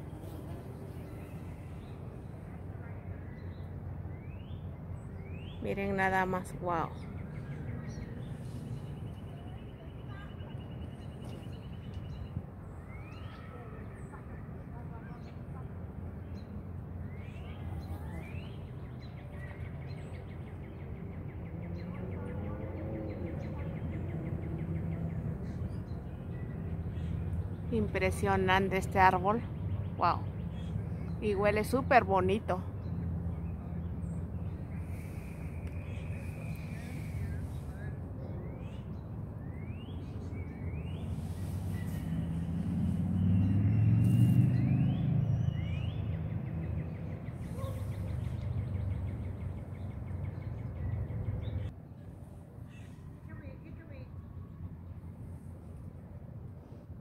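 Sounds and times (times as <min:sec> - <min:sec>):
songbird chirps and trill: 0:00.0 - 0:14.4, 0:15.1 - 0:55.1
vehicle engine rumble: 0:00.0 - 0:57.0.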